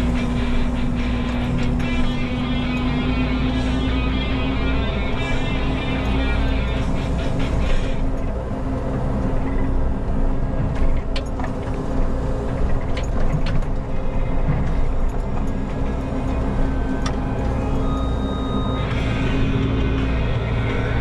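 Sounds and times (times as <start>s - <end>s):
background music: 0.0s - 13.2s, 13.9s - 21.0s
excavator diesel engine running: 0.0s - 21.0s.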